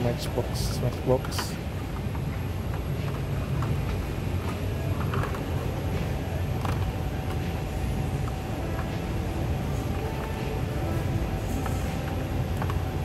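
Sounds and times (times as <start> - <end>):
low rumble of indoor store: 0.0 - 13.0.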